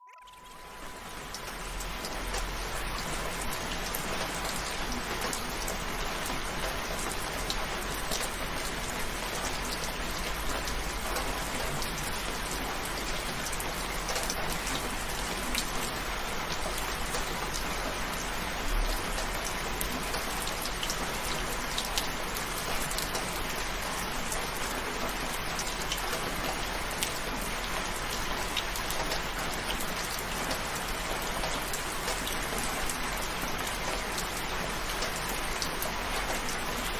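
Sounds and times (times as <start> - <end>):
steady rain falling: 0.3 - 36.9.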